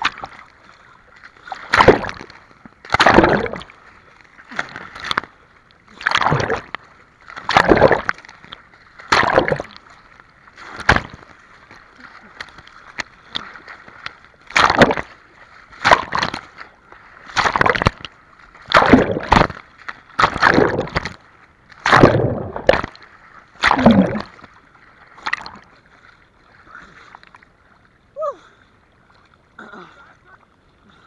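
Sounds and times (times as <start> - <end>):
seawater splashing and sloshing: 0.0 - 31.0.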